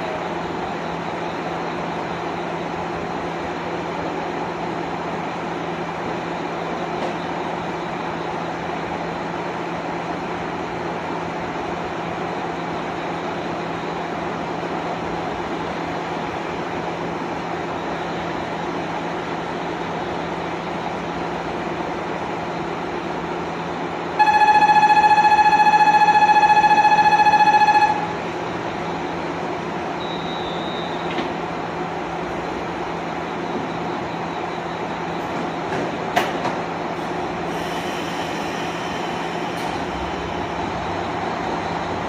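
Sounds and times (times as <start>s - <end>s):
diesel railcar idling: 0.0s - 42.0s.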